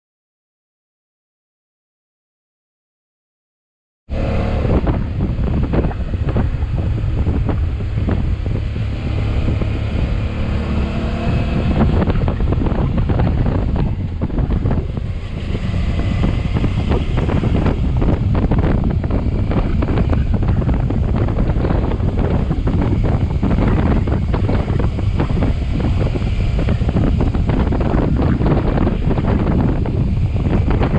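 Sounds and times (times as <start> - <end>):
motorcycle engine: 4.1 - 30.9
wind buffeting microphone: 4.1 - 30.9.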